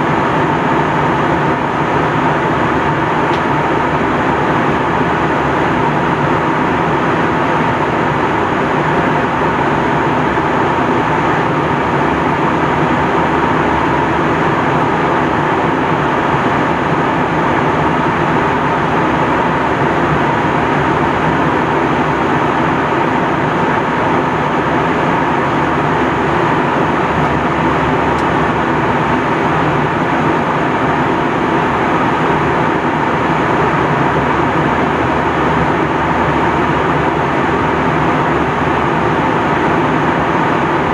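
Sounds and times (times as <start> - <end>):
airliner cabin airflow and drone: 0.0 - 40.9
faint steady whine: 0.0 - 40.9.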